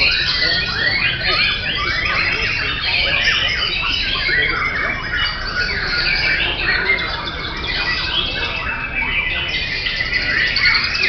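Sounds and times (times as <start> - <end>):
birds singing chorus: 0.0 - 11.0.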